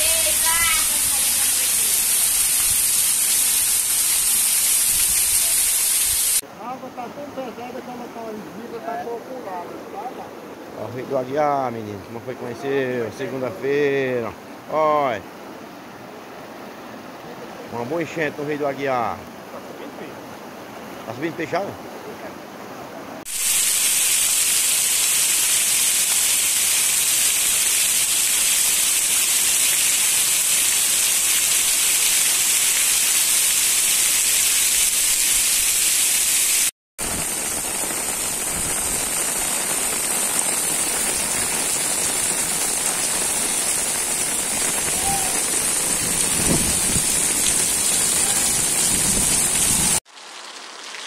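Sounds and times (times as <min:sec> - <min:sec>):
heavy rain hiss: 0:00.0 - 0:50.9.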